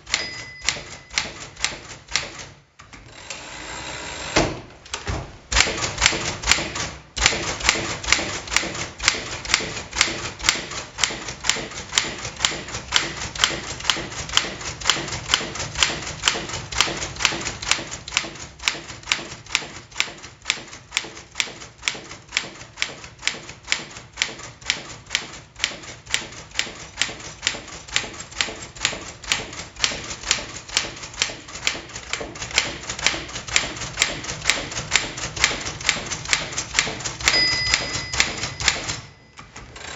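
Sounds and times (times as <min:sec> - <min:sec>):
manual typewriter typing: 0:00.0 - 0:03.4, 0:05.0 - 0:39.9.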